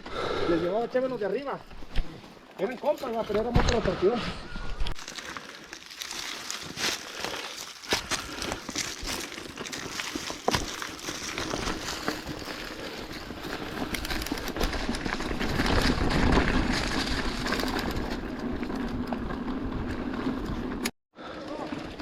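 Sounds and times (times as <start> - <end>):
bike tyres on dirt trail: 0.0 - 22.0.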